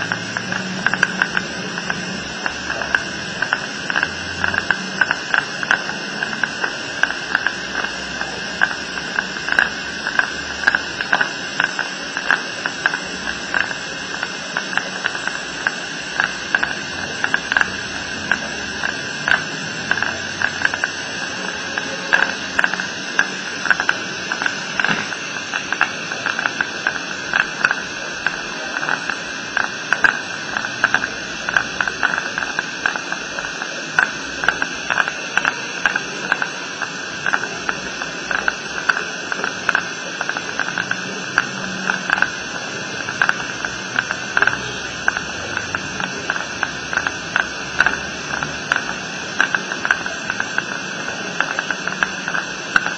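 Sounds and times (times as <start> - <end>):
dental suction hissing: 0.0 - 52.9
small clicks and crackles: 0.0 - 52.9.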